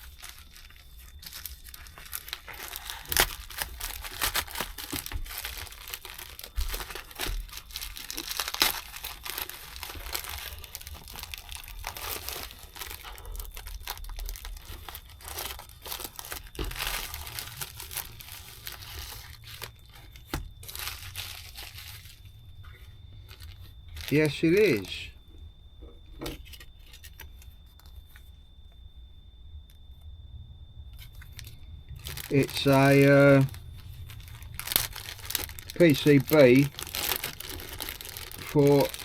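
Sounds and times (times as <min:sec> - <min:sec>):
packaging tearing and crinkling: 0:00.0 - 0:22.3, 0:23.3 - 0:25.1, 0:31.1 - 0:39.0.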